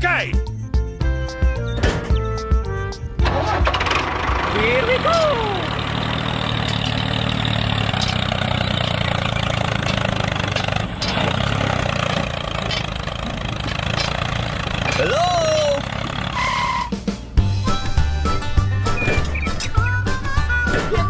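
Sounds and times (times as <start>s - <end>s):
tractor engine running: 0.8s - 21.0s.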